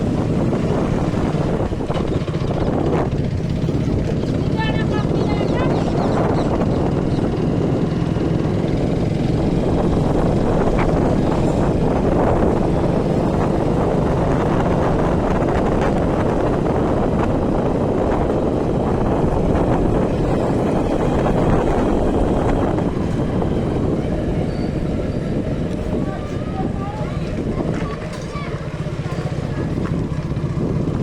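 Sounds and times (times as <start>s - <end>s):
moving vehicle rumble: 0.0s - 31.0s
wind buffeting microphone: 0.0s - 31.0s.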